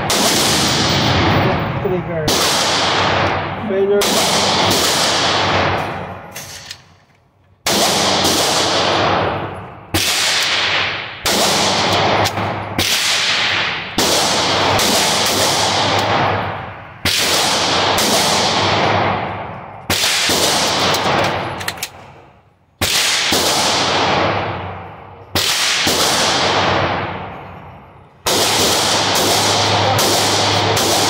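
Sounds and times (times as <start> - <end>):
pistol shots echoing indoors: 0.0 - 7.0, 7.6 - 22.1, 22.8 - 31.0.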